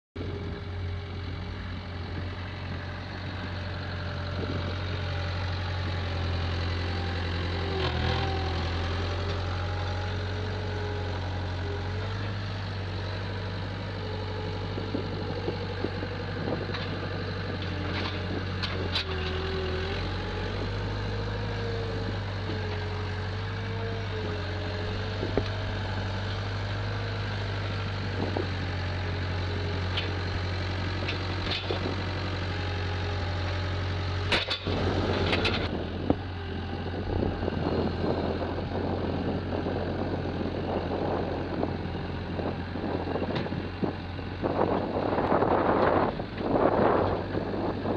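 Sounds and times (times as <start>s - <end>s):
diesel engine running: 0.2s - 47.9s.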